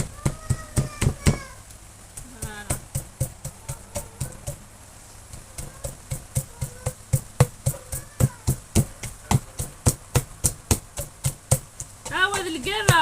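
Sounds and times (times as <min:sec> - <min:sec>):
pestle pounding in plastic mortar: 0:00.0 - 0:13.0.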